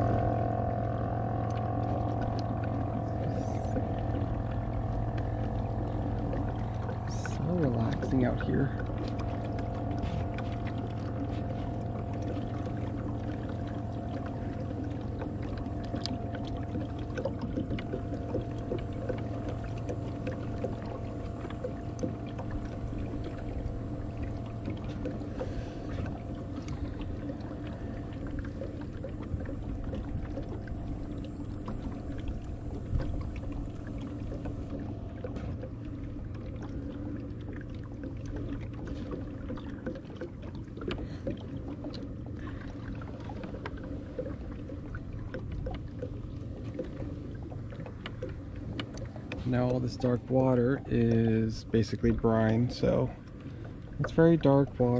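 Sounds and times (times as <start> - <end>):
steady low hum: 0.0 - 54.9
water lapping against kayak hull: 0.0 - 54.9
faint drips and ticks: 1.4 - 54.9.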